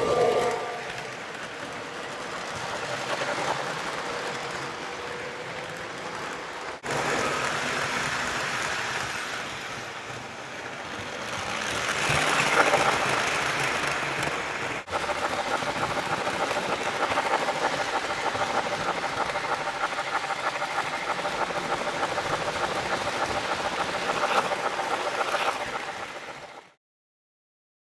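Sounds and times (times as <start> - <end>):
model train rattling on track: 0.0 - 26.8.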